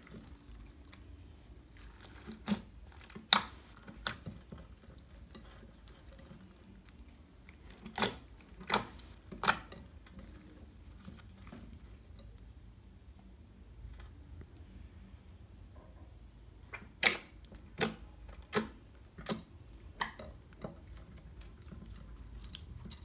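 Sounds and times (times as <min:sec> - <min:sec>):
slime squishing: 0:00.0 - 0:12.5, 0:16.6 - 0:23.0.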